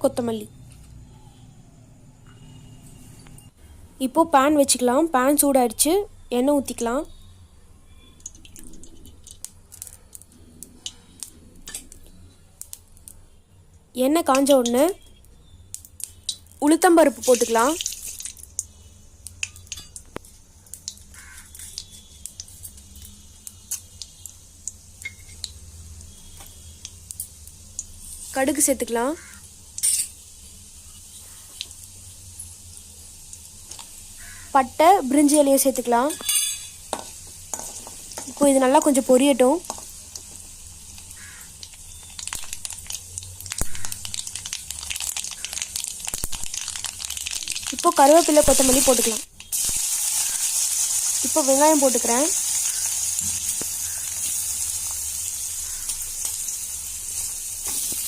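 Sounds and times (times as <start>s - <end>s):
lentils frying in hot oil: 7.9s - 58.0s.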